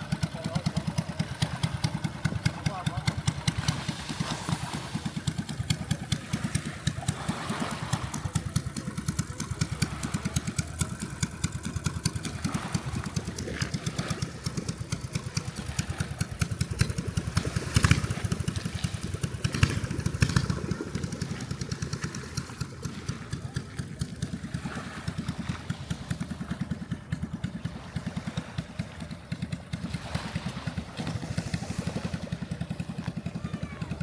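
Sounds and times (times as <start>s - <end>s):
unmuffled engine chugging: 0.0s - 34.0s.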